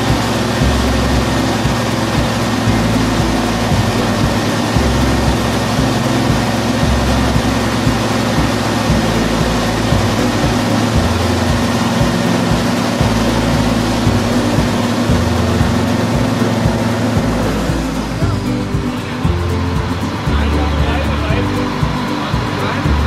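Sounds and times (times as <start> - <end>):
industrial shredder running: 0.0 - 23.0.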